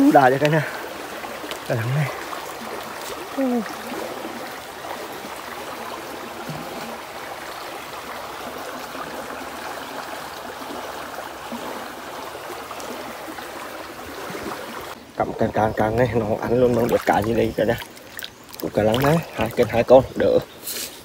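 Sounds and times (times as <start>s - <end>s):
stream water rushing: 0.0s - 20.6s.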